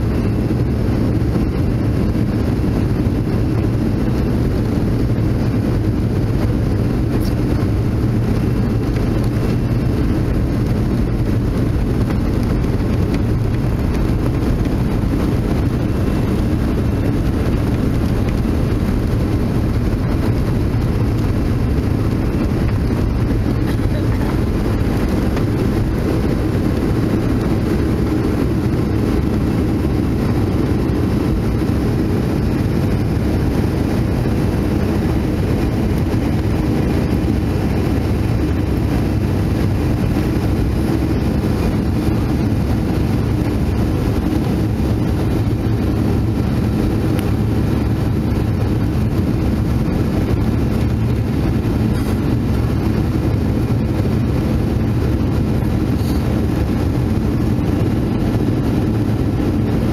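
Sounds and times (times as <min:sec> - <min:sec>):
jet engines roaring in aircraft cabin: 0:00.0 - 0:59.9.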